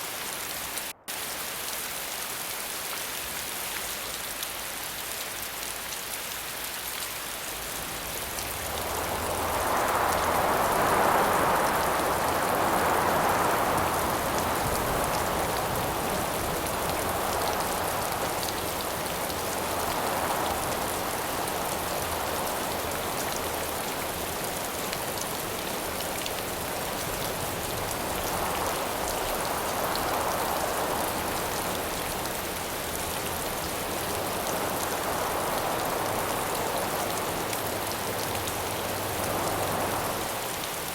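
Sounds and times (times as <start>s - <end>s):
rain hissing: 0.0s - 40.9s
wind gusts: 6.4s - 40.9s.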